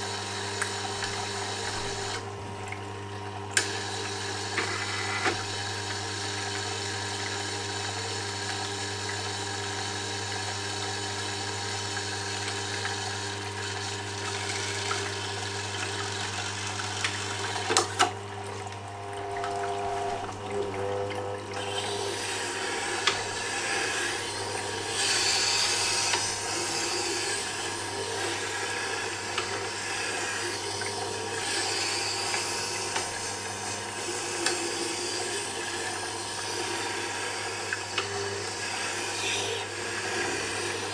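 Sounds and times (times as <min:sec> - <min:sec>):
wet sharpener running: 0:00.0 - 0:40.9.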